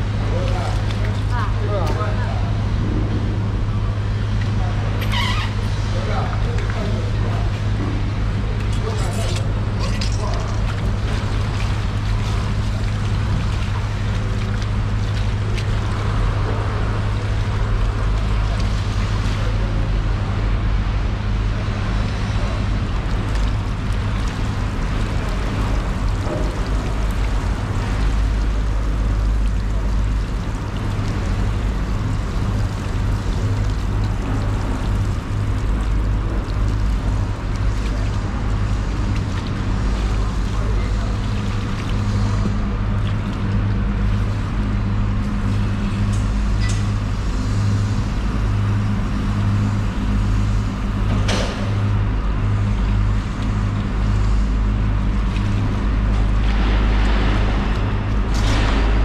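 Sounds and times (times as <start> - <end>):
hose water splashing: 0.0 - 2.6, 4.3 - 19.9, 21.7 - 59.0
steady low hum: 0.0 - 59.0.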